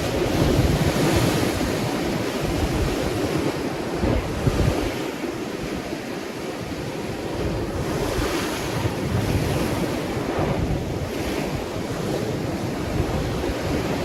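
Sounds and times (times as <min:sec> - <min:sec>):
waves breaking on shore: 0:00.0 - 0:14.0
wind gusting on microphone: 0:00.0 - 0:14.0.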